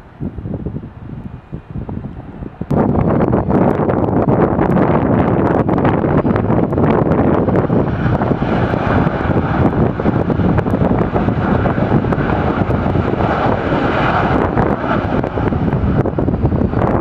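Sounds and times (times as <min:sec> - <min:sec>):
airliner engine noise: 0:00.0 - 0:17.0
wind buffeting microphone: 0:00.0 - 0:17.0.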